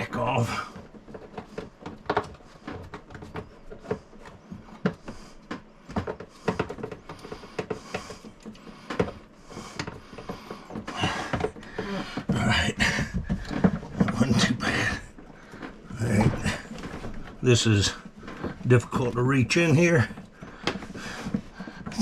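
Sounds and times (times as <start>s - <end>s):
clicks and knocks of hand tools: 0.0s - 19.2s
rustling: 0.0s - 22.0s.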